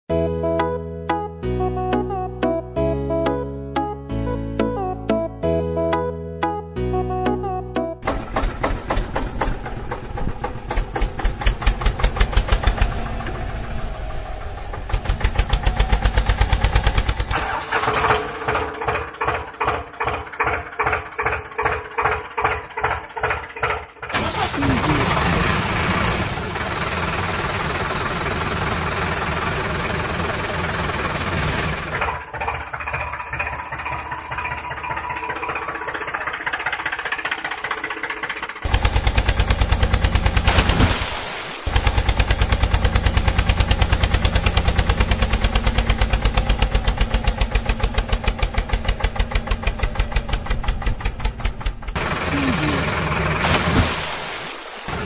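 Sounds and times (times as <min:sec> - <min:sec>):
tractor engine chugging: 0:08.0 - 0:40.6, 0:41.7 - 0:53.6.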